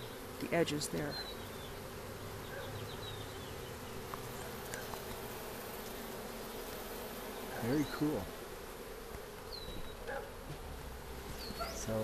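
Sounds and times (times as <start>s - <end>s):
bees humming: 0.0s - 12.0s.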